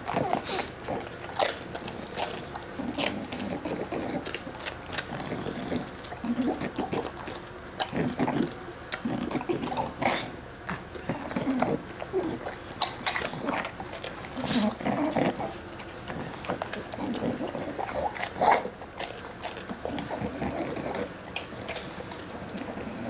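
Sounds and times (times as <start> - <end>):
dog wet chewing sounds: 0.0 - 23.0.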